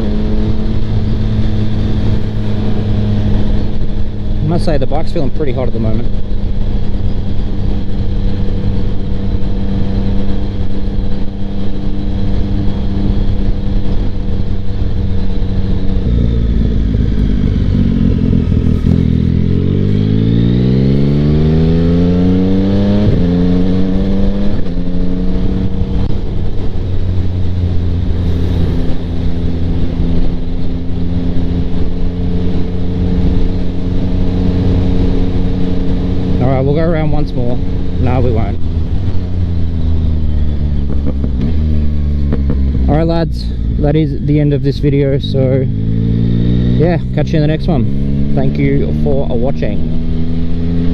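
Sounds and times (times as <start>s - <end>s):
gear change: 0.0s - 50.9s
motorcycle engine revving: 0.0s - 50.9s.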